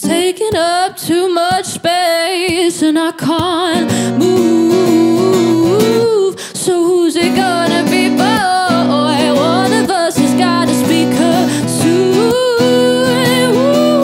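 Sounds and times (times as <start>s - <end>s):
woman singing ornamented runs: 0.0s - 14.0s.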